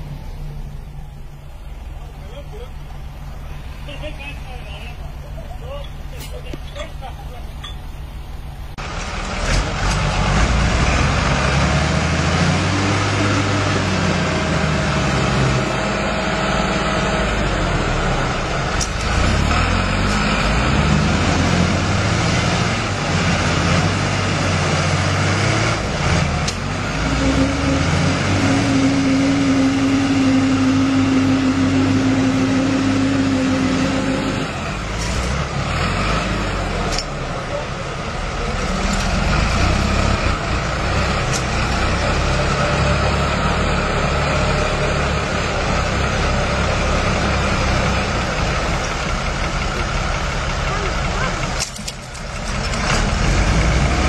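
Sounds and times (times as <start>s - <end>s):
tractor engines straining: 0.0s - 54.0s.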